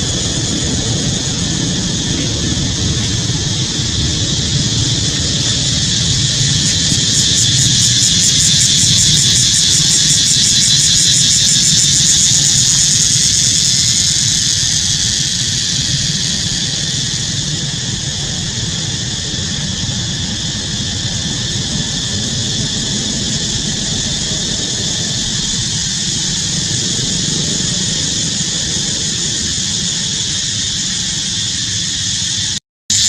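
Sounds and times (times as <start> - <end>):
low rumble: 0.0 - 31.3
high-pitched insect chorus: 0.0 - 33.0.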